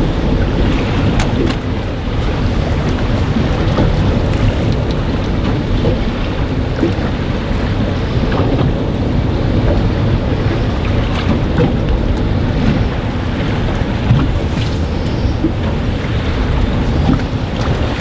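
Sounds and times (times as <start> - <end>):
sea wash: 0.0 - 18.0
wind buffeting microphone: 0.0 - 18.0.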